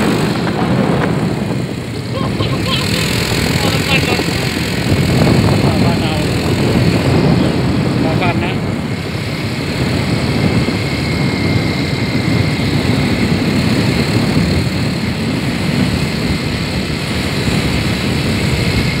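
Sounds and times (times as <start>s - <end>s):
low fluttering rumble: 0.0s - 19.0s.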